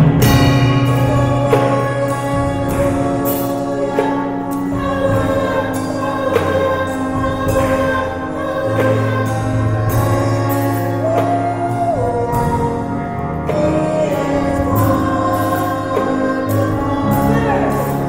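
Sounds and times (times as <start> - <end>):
choir singing gospel: 0.0 - 18.0.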